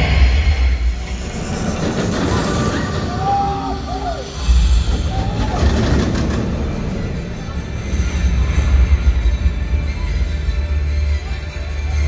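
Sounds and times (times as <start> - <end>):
roller coaster train rumbling: 0.0 - 10.3.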